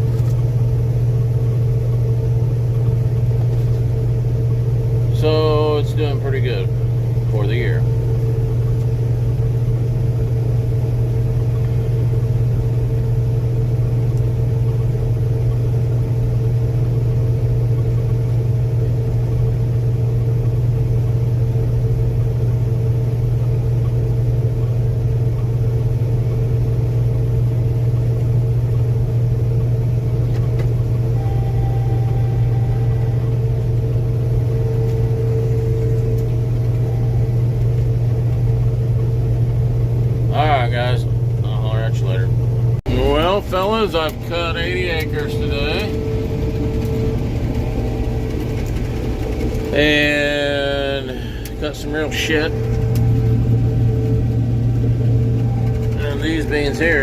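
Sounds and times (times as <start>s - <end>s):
combine harvester drone: 0.0s - 57.0s
steady hum: 0.0s - 57.0s.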